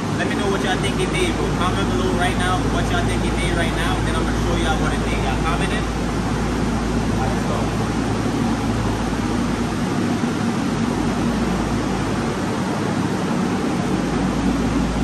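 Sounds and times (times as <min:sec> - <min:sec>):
large fan rushing air: 0:00.0 - 0:15.0.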